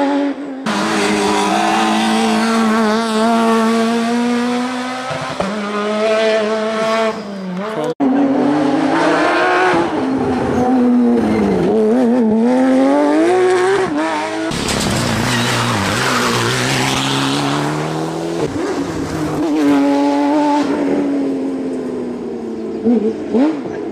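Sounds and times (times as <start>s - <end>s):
rally car engines revving: 0.0s - 23.9s.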